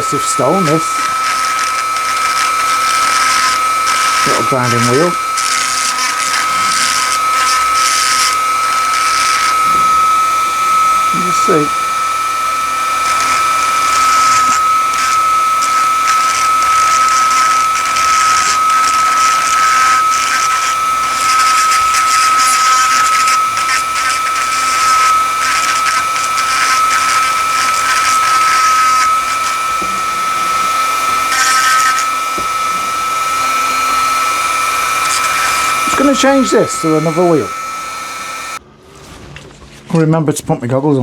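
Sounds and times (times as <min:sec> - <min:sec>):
grinding bit on metal: 0:00.0 - 0:38.6
rotary tool whine: 0:00.0 - 0:38.6.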